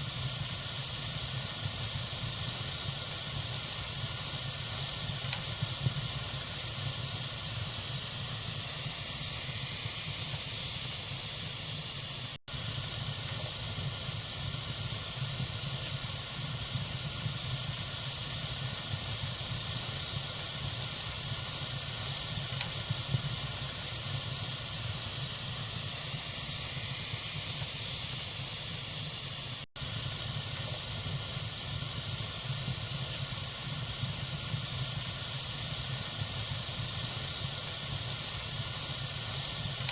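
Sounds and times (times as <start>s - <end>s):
faint fire crackles: 0.0s - 39.9s
wood fire hissing: 0.0s - 39.9s.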